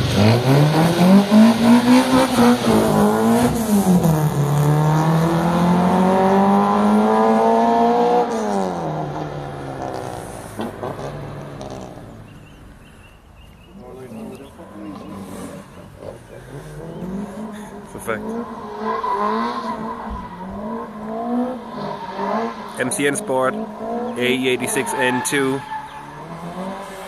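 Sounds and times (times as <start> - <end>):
car engine revving hard: 0.0 - 12.3, 14.1 - 27.0.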